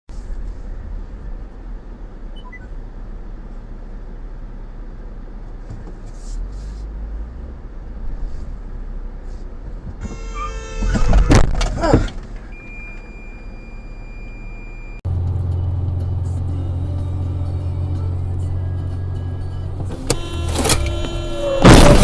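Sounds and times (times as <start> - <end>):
car driving rumble: 0.1 - 22.0.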